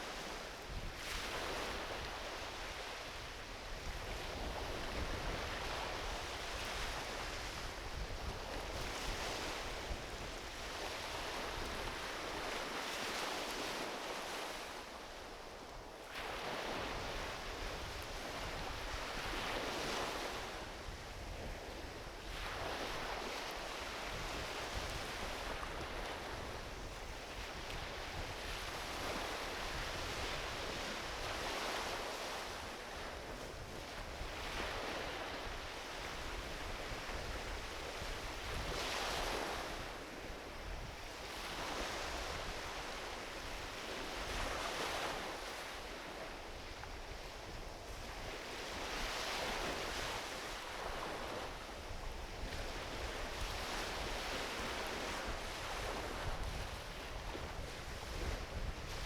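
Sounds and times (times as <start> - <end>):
small waves washing onto beach: 0.0 - 59.0
wind rumble on microphone: 0.0 - 59.0.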